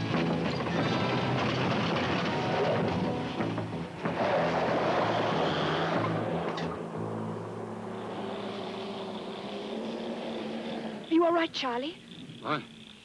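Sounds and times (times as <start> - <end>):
vehicle engine driving off: 0.0 - 12.5.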